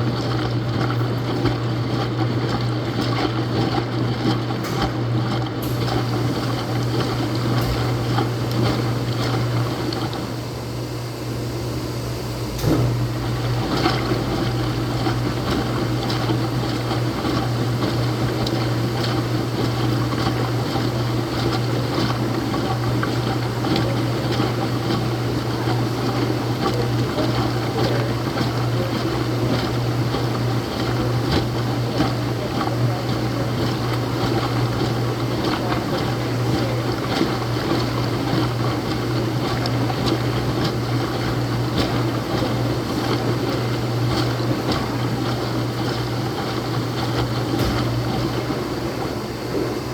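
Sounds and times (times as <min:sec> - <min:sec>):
washing machine running: 0:00.0 - 0:49.9
water noise: 0:00.0 - 0:49.9.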